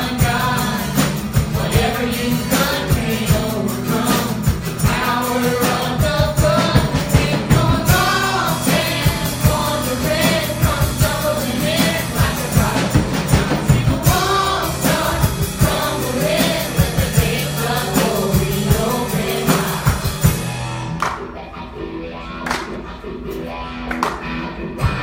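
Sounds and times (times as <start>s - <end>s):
worship music with singing: 0.0s - 20.4s
steady drum beat: 0.0s - 21.2s.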